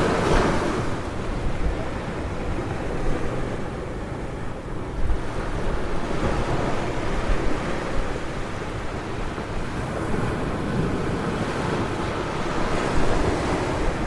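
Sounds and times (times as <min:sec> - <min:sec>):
ocean surf breaking on beach: 0:00.0 - 0:14.0
wind rumbling on microphone: 0:00.0 - 0:14.0.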